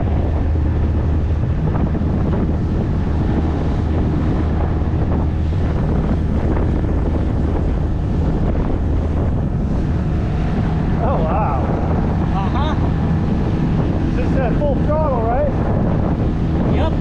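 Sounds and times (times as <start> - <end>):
motorboat engine drone: 0.0 - 17.0
water rushing along hull: 0.0 - 17.0
wind buffeting microphone: 0.0 - 17.0.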